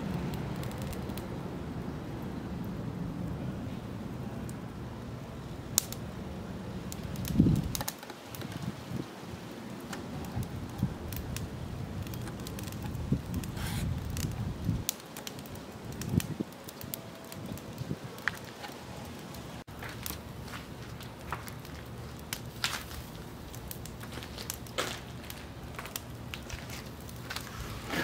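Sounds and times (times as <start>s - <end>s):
charcoal crackling and popping: 0.0s - 28.0s.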